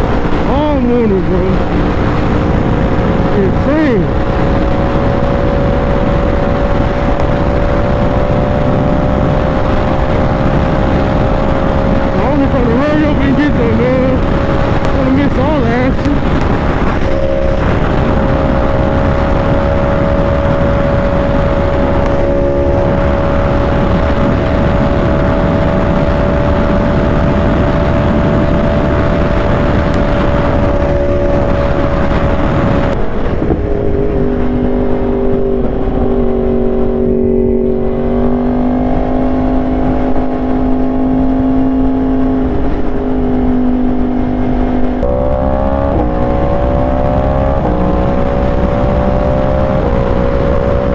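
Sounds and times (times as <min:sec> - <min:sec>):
motorcycle engine cruising: 0:00.0 - 0:50.9
wind rush over microphone: 0:00.0 - 0:50.9.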